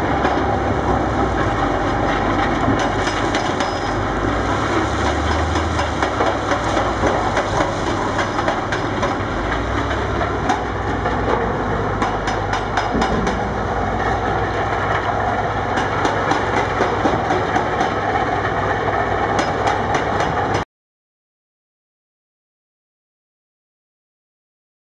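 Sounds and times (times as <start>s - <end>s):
diesel excavator engines running: 0.0s - 20.6s
hydraulic breaker pounding rock: 0.0s - 20.6s.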